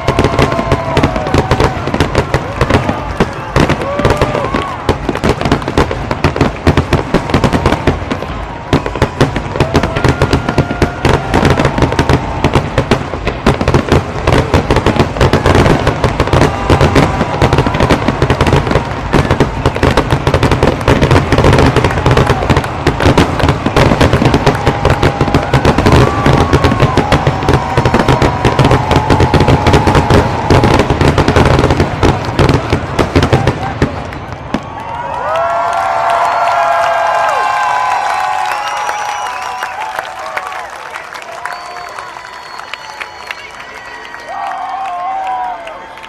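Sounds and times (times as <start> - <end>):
fireworks whistling: 0.0 - 35.0, 36.0 - 46.0
fireworks crackling and popping: 0.0 - 46.0.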